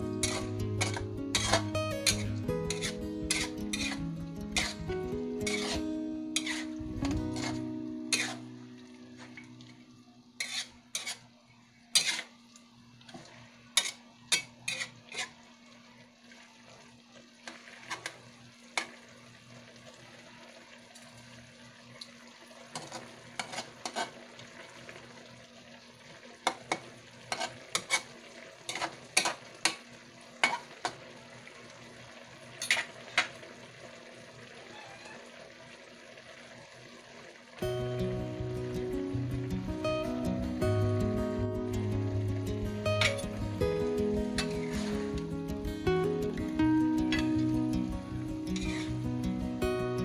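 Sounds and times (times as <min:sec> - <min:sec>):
food simmering with soft sizzle: 0:00.0 - 0:50.0.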